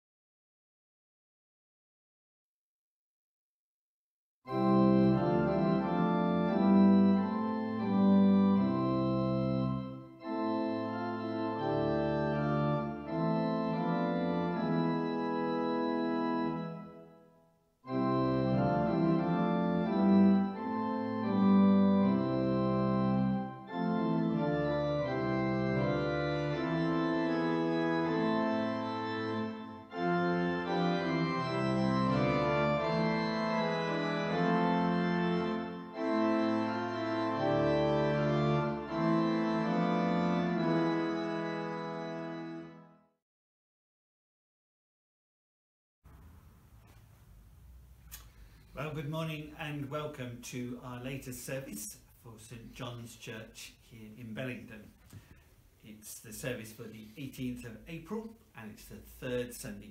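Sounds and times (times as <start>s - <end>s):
organ playing slow chords: 4.5s - 43.2s, 48.1s - 59.9s.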